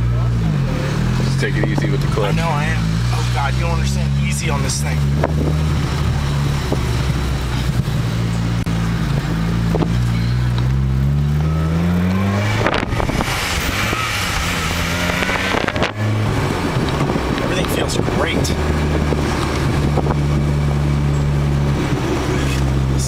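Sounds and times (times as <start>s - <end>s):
car engine revving under load: 0.0s - 23.0s
road noise: 0.0s - 23.0s.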